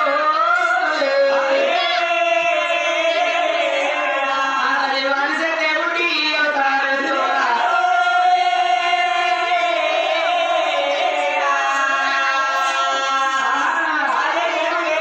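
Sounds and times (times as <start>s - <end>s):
man singing over loudspeaker: 0.0s - 15.0s.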